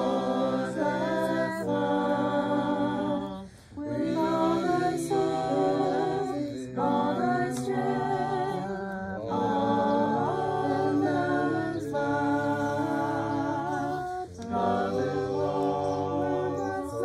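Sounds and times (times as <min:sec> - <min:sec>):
voices singing a cappella: 0:00.0 - 0:17.0.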